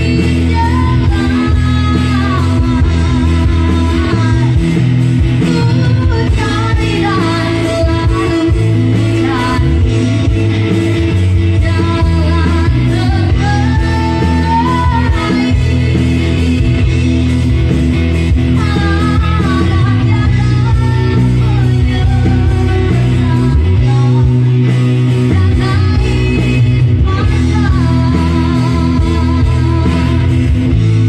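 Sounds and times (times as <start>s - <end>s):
woman singing: 0.0s - 17.3s, 18.3s - 30.7s
bass guitar: 0.0s - 31.0s
electronic drum kit: 0.0s - 31.0s
guitars: 0.0s - 31.0s.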